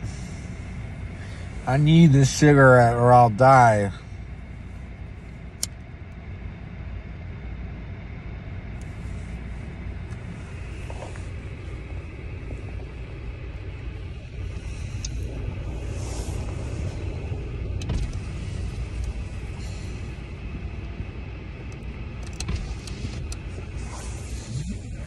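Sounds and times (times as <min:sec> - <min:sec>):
car cabin rumble: 0:00.0 - 0:25.0.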